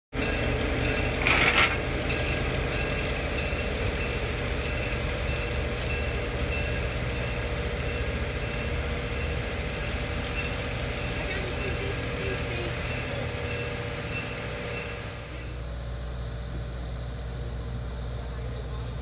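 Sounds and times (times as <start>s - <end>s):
locomotive engine running: 0.1s - 19.0s.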